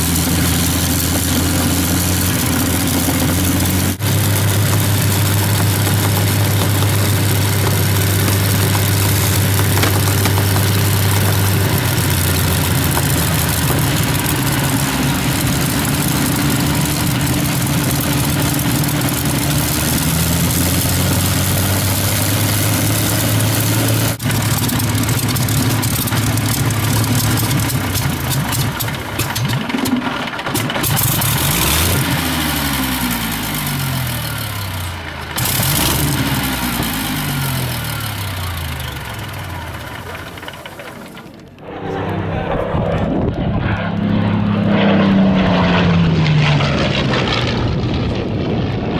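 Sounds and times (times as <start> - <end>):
aircraft engine running loud: 0.0 - 48.9.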